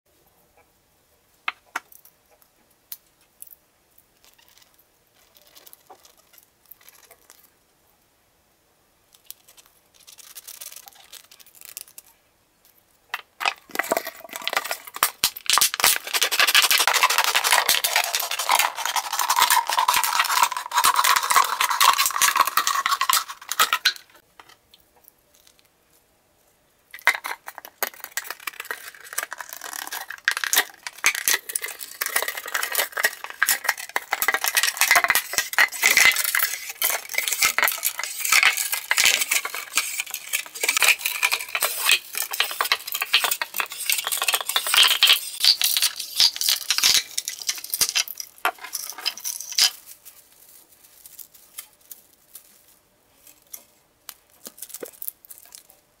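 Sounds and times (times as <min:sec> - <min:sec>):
thin plastic crinkling: 0:04.2 - 0:07.5, 0:09.1 - 0:24.2, 0:26.9 - 0:55.9.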